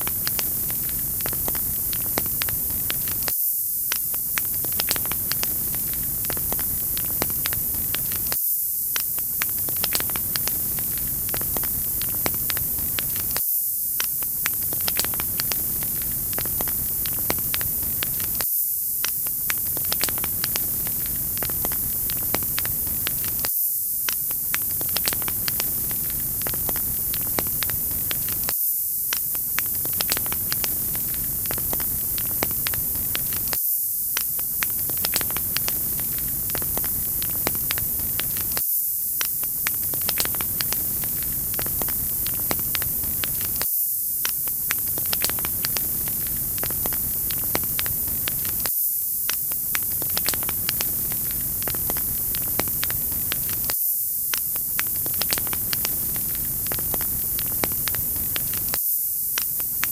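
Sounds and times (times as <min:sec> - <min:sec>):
wood fire crackling and popping: 0:00.0 - 0:13.4, 0:14.0 - 0:59.9.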